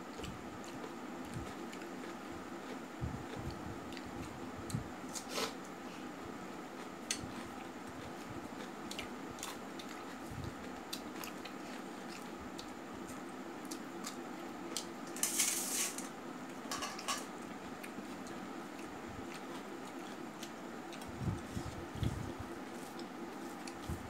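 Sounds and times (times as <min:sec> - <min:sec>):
low fan hum: 0:00.0 - 0:24.0
chewing: 0:00.1 - 0:04.8, 0:06.8 - 0:14.9, 0:17.4 - 0:24.0.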